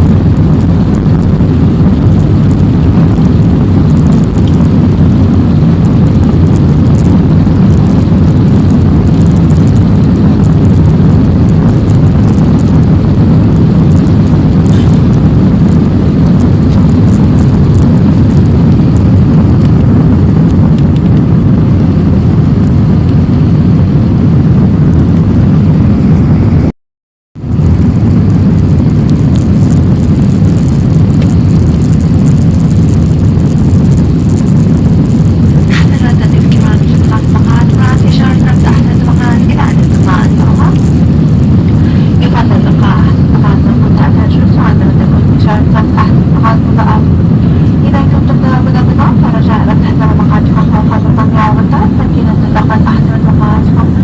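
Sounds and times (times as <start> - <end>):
jet engines rumbling: 0.0 - 26.7, 27.4 - 54.0.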